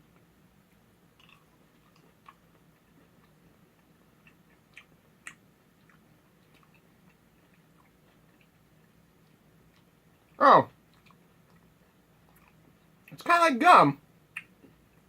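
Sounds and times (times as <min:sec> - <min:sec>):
faint low hum: 0:00.0 - 0:15.0
chewing candy with mouth clicks: 0:00.1 - 0:13.2.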